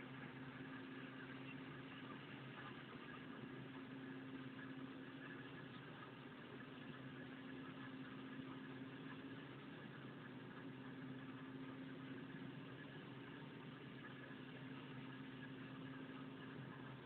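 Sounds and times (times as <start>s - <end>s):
faint machine hum: 0.0s - 17.0s.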